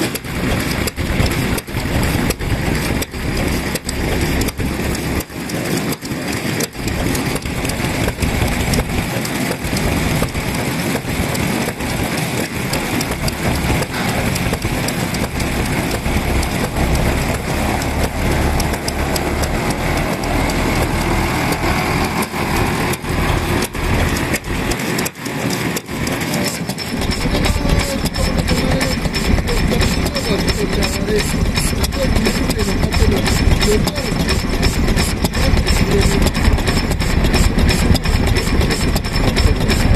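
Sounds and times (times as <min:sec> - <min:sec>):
stationary engines chugging: 0:00.0 - 0:39.9.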